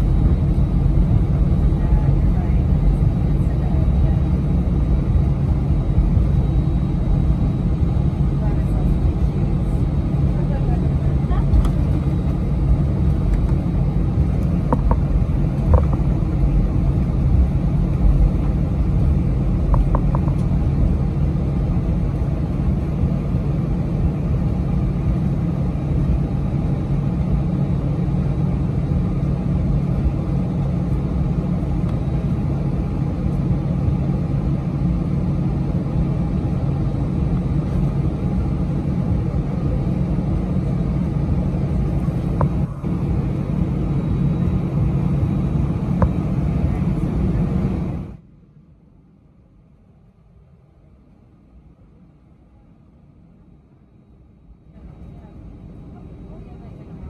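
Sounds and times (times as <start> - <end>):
jet engines humming at idle: 0.0 - 57.0.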